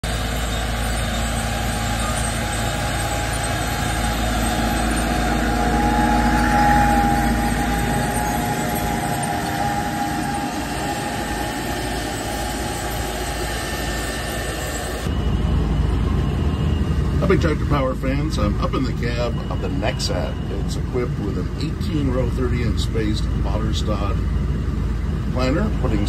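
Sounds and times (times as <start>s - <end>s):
high whine: 0.0s - 26.0s
tractor engine running: 0.0s - 26.0s.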